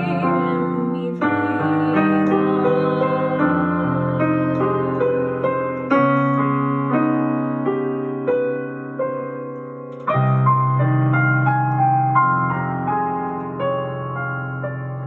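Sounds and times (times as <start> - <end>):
solo piano: 0.0 - 15.0.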